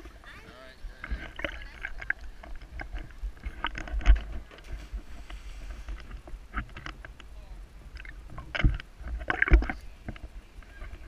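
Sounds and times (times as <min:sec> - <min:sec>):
low wind rumble on microphone: 0:00.0 - 0:11.0.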